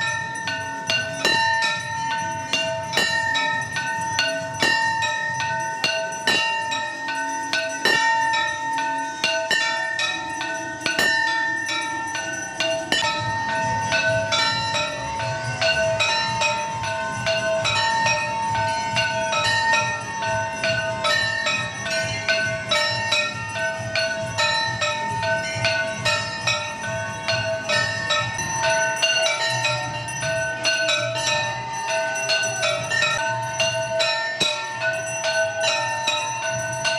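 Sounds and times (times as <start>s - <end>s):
bells ringing: 0.0s - 36.9s
low pulsing beat: 0.0s - 36.9s.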